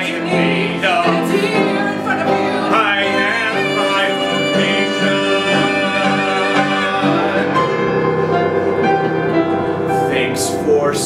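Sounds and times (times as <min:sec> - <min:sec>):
musical accompaniment with held notes: 0:00.0 - 0:11.0.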